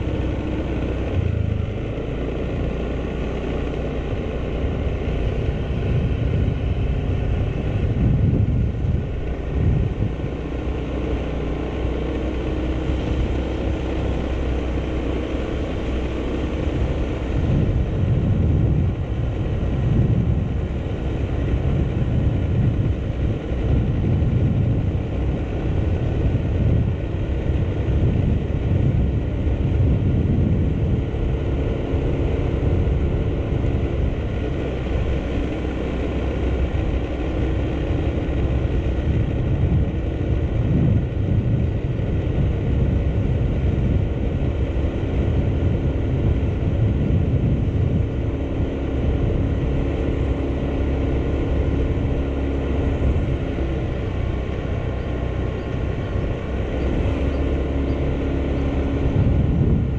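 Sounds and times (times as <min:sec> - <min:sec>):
motorcycle engine running: 0:00.0 - 0:59.9
wind on microphone: 0:04.0 - 0:59.9.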